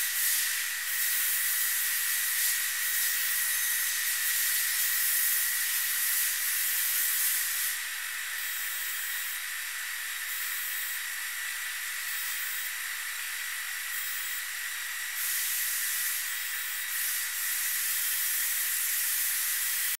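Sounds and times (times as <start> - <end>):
hiss: 0.0 - 20.0.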